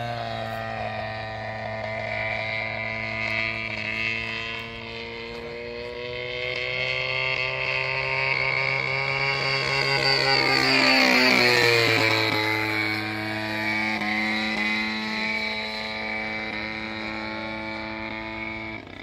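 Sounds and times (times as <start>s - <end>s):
model airplane engine droning: 0.0s - 19.0s.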